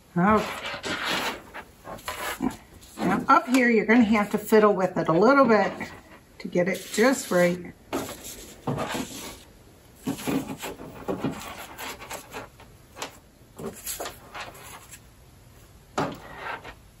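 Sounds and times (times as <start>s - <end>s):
paper pennants rustling: 0.2s - 9.4s, 10.0s - 15.1s.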